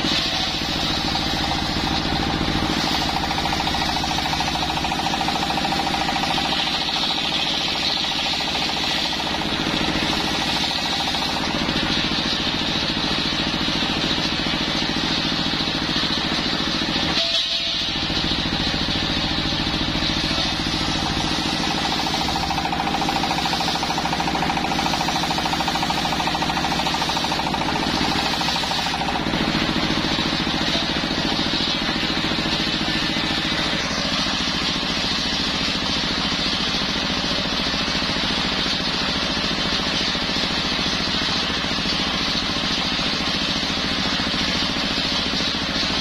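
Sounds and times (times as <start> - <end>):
diesel engine knocking: 0.0 - 17.1, 17.9 - 46.0.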